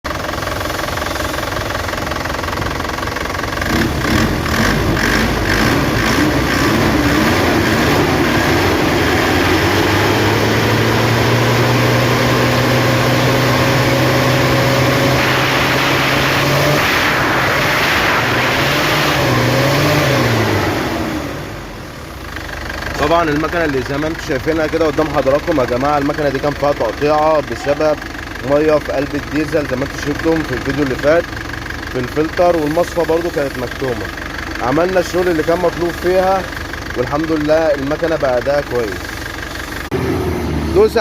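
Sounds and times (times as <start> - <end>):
diesel engine revving: 0.0 - 41.0.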